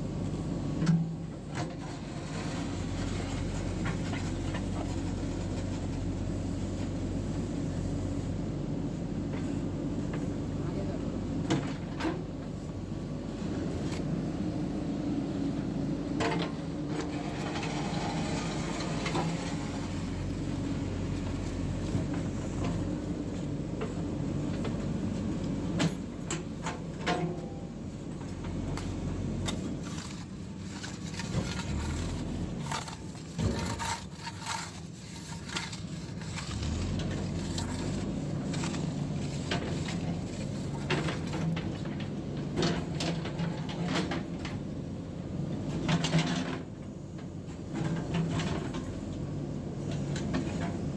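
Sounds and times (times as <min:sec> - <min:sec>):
backhoe diesel engine running: 0:00.0 - 0:50.9.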